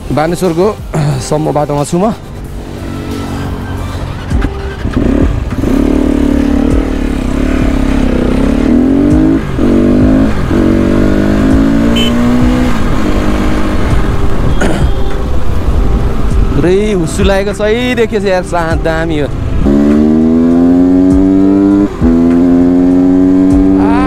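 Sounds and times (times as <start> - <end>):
motorcycle accelerating: 2.2 - 17.2, 18.7 - 24.0.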